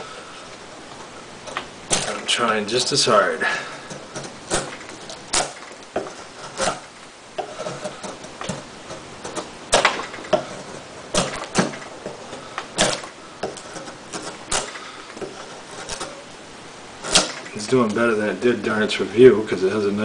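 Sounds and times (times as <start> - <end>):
knife shaving wood: 0.0 - 16.3.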